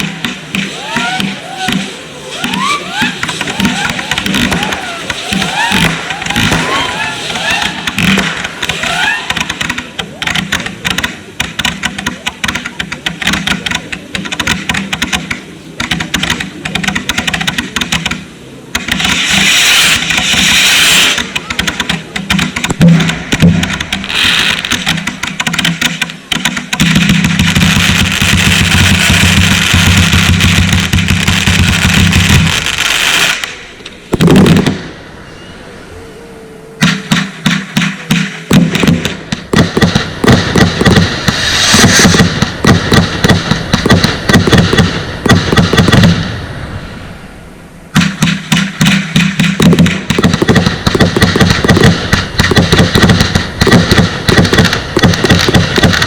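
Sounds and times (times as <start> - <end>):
fireworks firing: 0.0 - 56.0.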